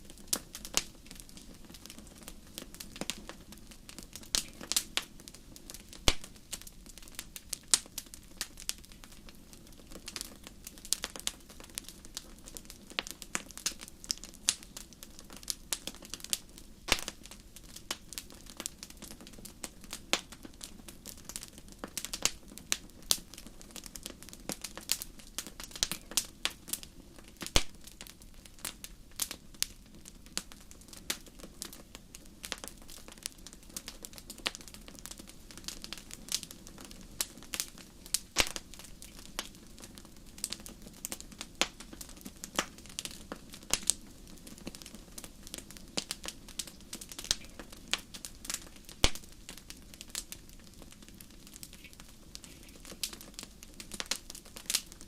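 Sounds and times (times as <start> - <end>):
fire pops and snaps: 0.0 - 55.0
soft steady hiss: 0.0 - 55.0
wood fire crackling: 0.0 - 55.0.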